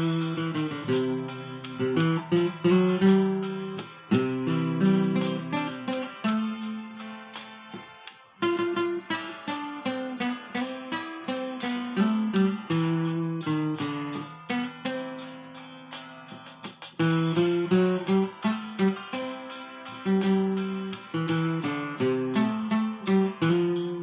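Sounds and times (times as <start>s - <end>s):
acoustic guitar hymn melody: 0.0s - 24.0s.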